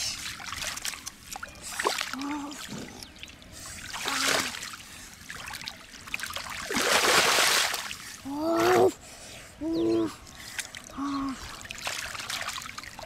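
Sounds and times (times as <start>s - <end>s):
muddy water splashing: 0.0s - 9.0s, 10.0s - 13.0s.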